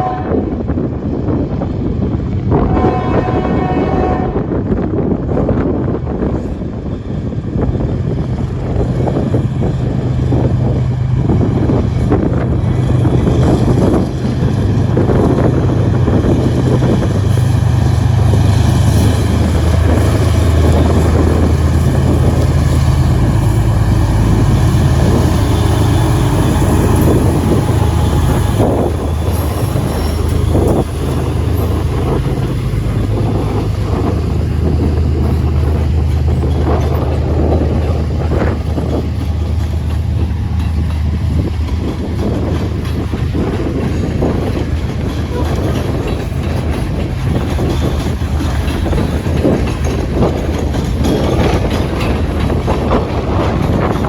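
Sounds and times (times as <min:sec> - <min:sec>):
diesel locomotive engines droning: 0:00.0 - 0:54.0.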